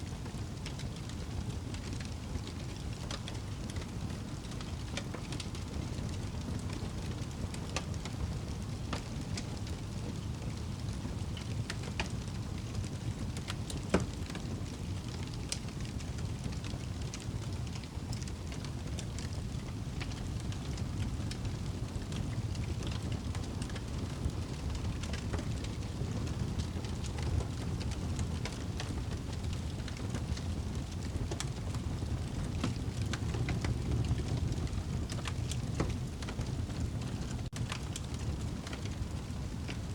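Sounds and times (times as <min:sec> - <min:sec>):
fire flames rumbling: 0:00.0 - 0:39.9
fire crackling: 0:00.2 - 0:39.9.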